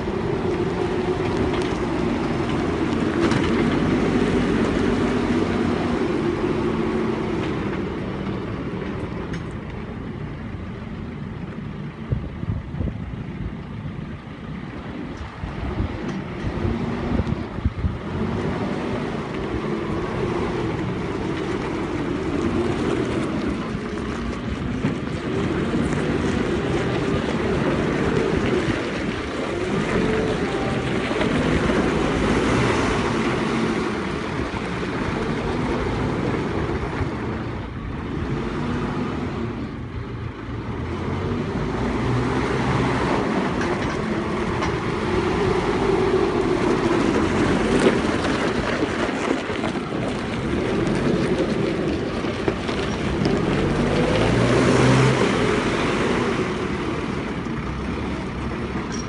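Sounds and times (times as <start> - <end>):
diesel engine revving: 0.0 - 59.0.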